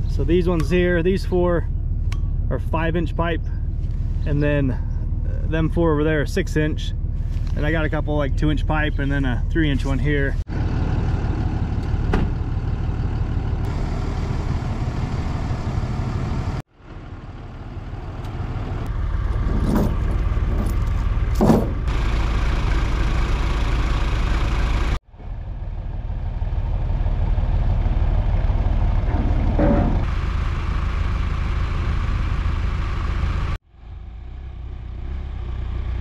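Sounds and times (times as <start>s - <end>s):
vehicle engines running: 0.0s - 36.0s.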